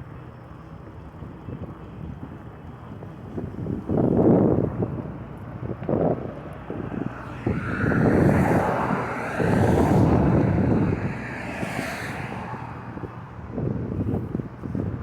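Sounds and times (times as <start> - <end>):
wind buffeting microphone: 0.8 - 15.0.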